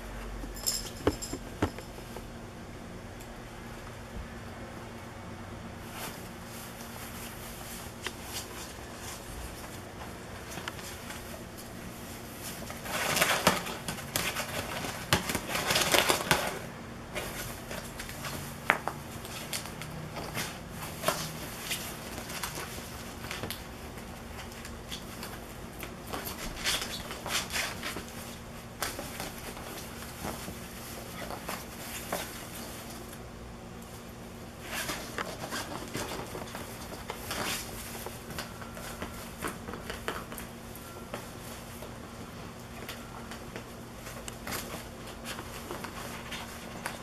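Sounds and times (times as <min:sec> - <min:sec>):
fabric rustling and crinkling: 0:05.8 - 0:33.2, 0:33.9 - 0:47.0.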